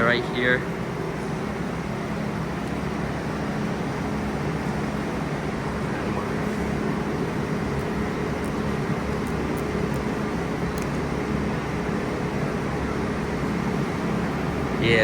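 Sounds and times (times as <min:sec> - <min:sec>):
subway train humming while stopped: 0:00.0 - 0:15.0.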